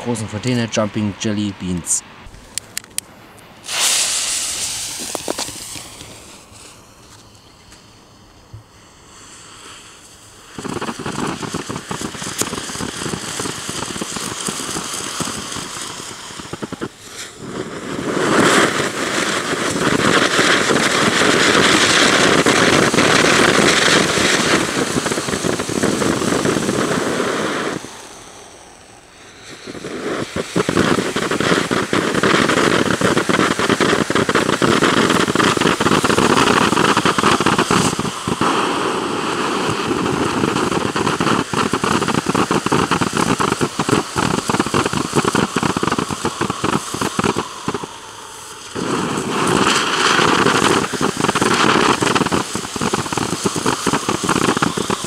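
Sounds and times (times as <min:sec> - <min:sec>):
firework fountain hissing and crackling: 0:00.0 - 0:55.0.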